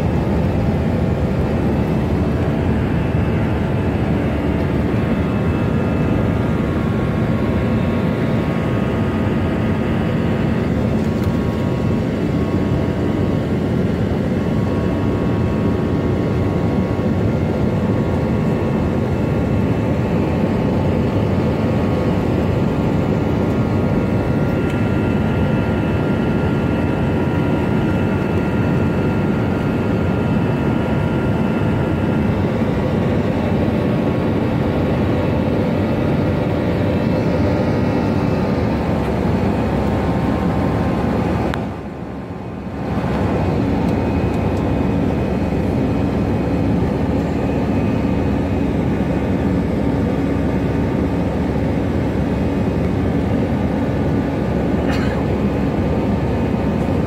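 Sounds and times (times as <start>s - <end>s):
jet engines and airflow din: 0.0s - 57.0s.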